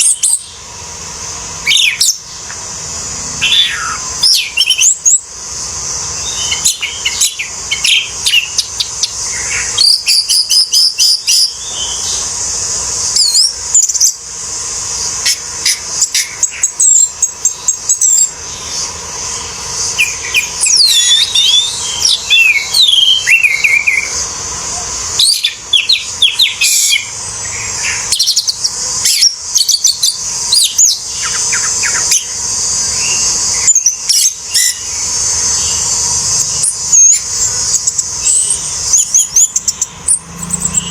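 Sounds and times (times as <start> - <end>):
steady high hiss: 0.0 - 40.9
thrush singing: 0.0 - 40.9.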